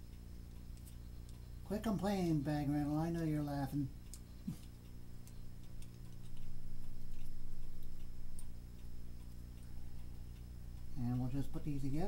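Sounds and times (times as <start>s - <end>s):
clock ticking faintly: 0.0s - 12.0s
low electrical hum: 0.0s - 12.0s.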